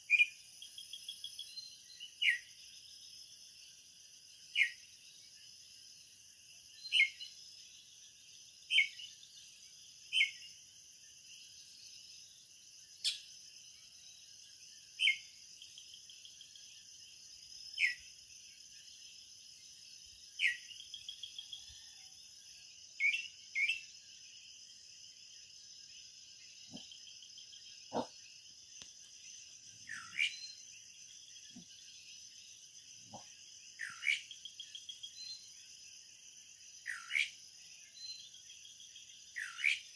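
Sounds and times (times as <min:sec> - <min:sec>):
night insect chorus: 0:00.0 - 0:39.9.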